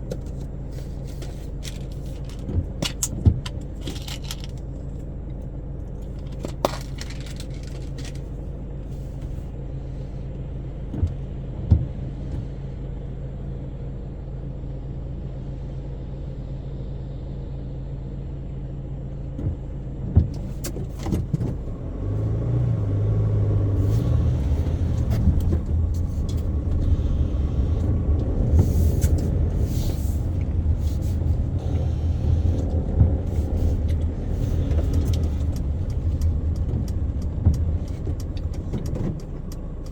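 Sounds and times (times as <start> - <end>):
car driving road noise: 0.0 - 39.9
car engine idling: 0.0 - 39.9.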